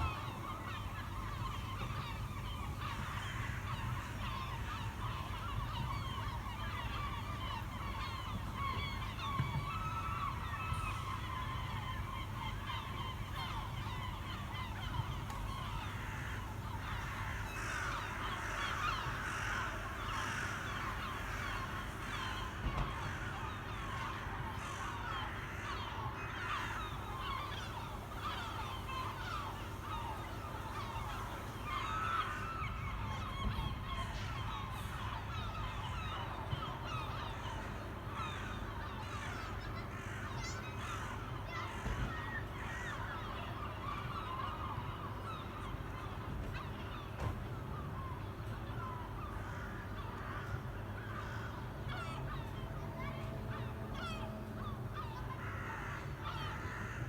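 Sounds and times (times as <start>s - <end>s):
flock of birds calling: 0.0s - 57.0s.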